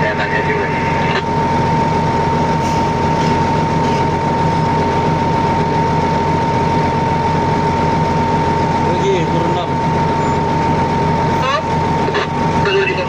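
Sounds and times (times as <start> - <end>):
high-pitched whine: 0.0 - 13.0
truck engine running: 0.0 - 13.0.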